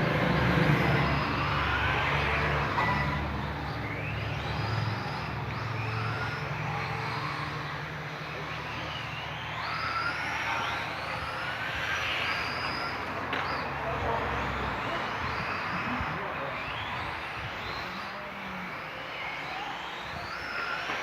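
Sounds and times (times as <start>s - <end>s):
racing vehicle motors whining: 0.0s - 21.0s.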